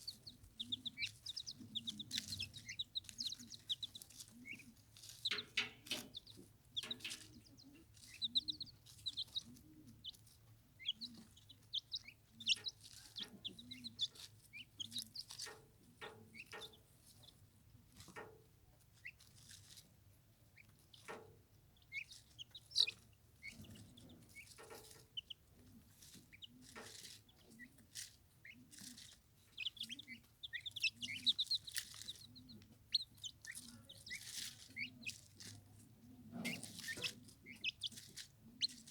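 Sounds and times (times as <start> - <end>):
young turkeys peeping: 0.0 - 38.9.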